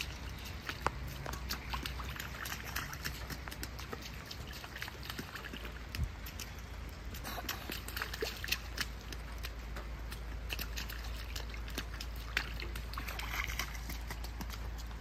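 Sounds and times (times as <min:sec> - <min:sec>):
feet splashing through puddle: 0:00.0 - 0:15.0.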